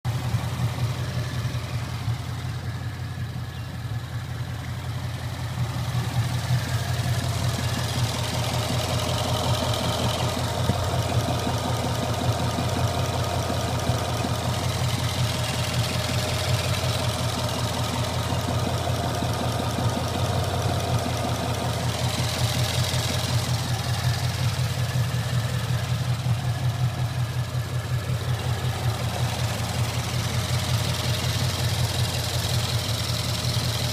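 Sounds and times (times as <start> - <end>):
car engine running: 0.0 - 33.9
engine knocking: 0.0 - 33.9.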